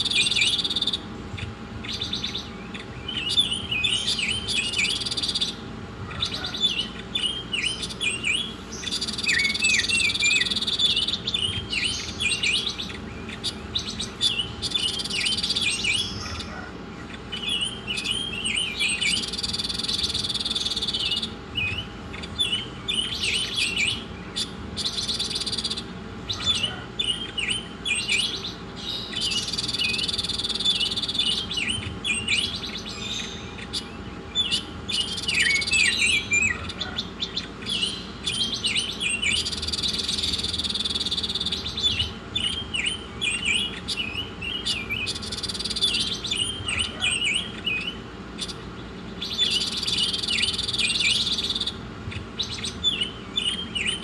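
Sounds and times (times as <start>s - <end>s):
songbird chirps and buzzy trills: 0.0s - 54.0s.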